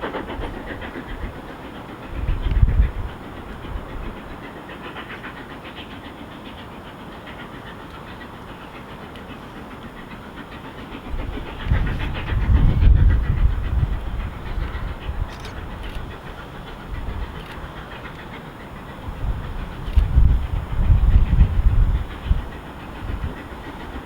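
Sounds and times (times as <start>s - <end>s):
steam locomotive running: 0.0s - 24.0s
wind buffeting microphone: 0.0s - 24.0s.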